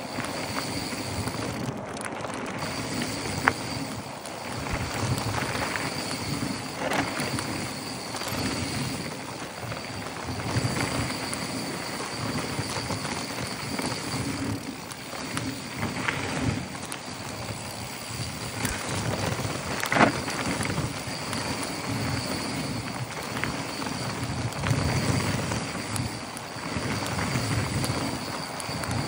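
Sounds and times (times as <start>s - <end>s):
bike rattling over bumps: 0.0s - 29.0s
wind on microphone: 0.0s - 29.0s.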